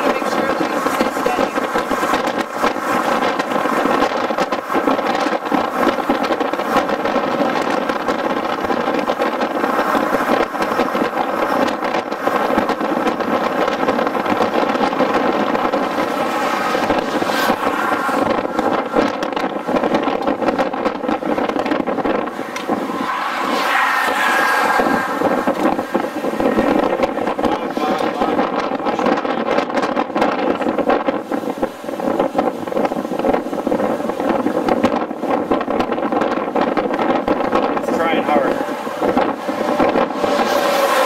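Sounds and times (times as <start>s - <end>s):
car driving at speed: 0.0s - 41.0s
wind on microphone: 0.0s - 41.0s.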